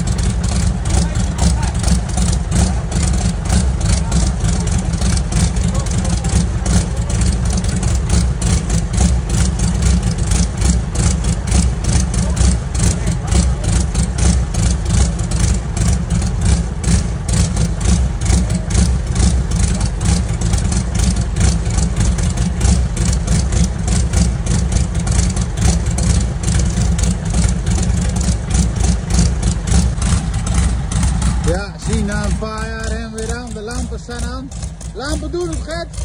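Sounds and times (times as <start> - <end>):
helicopter piston engine running: 0.0 - 36.0.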